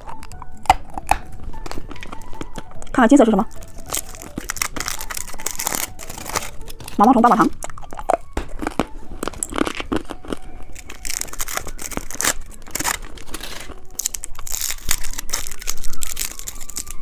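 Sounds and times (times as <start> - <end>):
plastic candy wrappers crinkling: 0.0 - 17.0.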